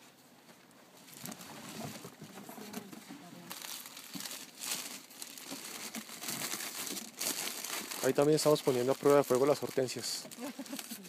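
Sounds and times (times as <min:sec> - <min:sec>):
plastic sleeves crinkling: 0:01.0 - 0:11.0.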